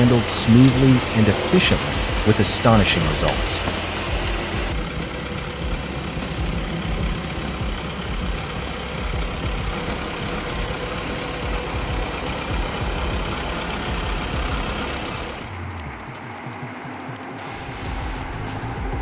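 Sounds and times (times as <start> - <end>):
faint steady whine: 0.0 - 16.0
heavy machine engine rumbling: 0.0 - 16.2.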